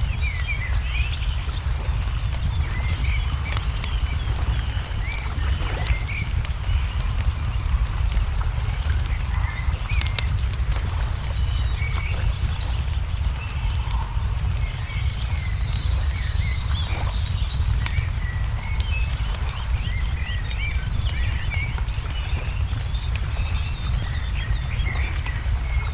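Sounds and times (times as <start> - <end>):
songbirds chirping: 0.0 - 25.9
steady low rumble: 0.0 - 25.9
wood fire crackling and popping: 0.0 - 25.9.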